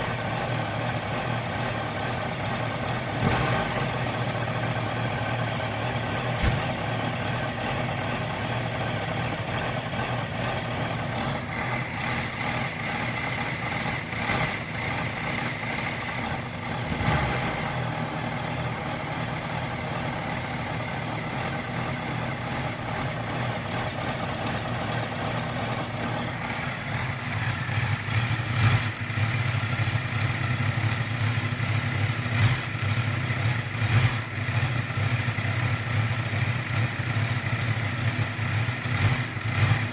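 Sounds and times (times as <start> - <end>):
motorcycle engine idling rough: 0.0 - 39.9.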